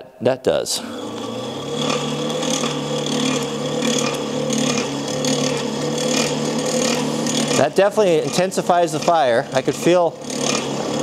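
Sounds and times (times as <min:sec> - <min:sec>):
air blower humming: 0:00.8 - 0:11.0.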